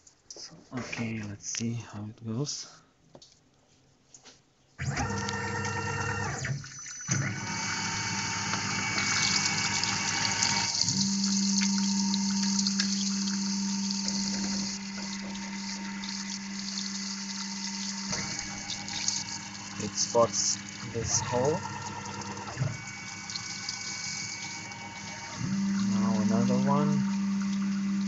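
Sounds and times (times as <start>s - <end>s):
mill spindle starting: 4.8s - 28.0s.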